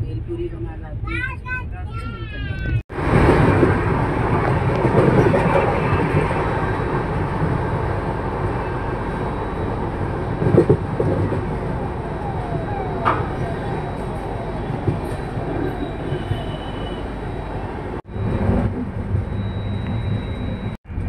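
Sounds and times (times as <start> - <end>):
train wheels rumbling and rattling: 0.1 - 21.0.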